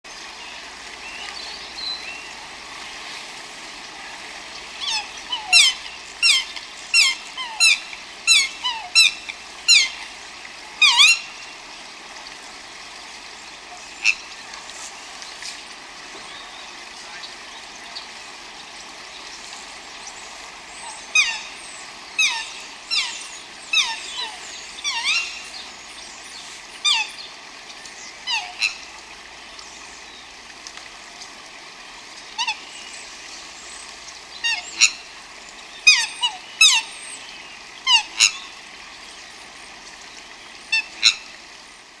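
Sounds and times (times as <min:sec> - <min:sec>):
steady background hiss: 0:00.1 - 0:42.0.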